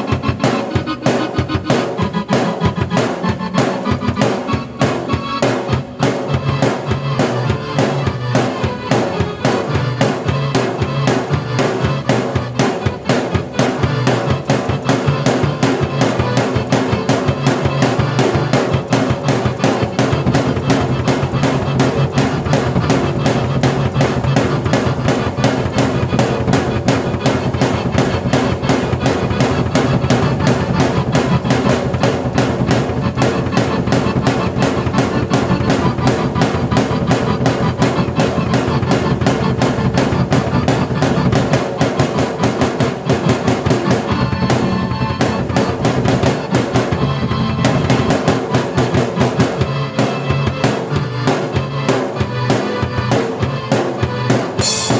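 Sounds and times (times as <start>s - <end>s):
drum kit beat: 0.0s - 54.9s
keyboard chords and melody: 0.0s - 54.9s.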